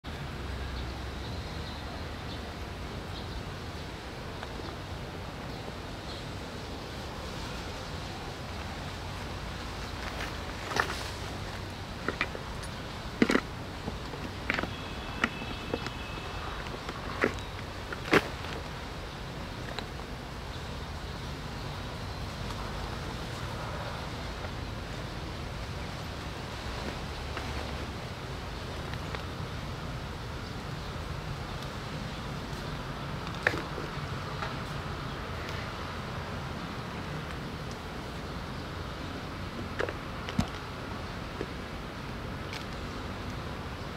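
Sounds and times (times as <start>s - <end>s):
wind rumbling on microphone: 0.2s - 43.9s.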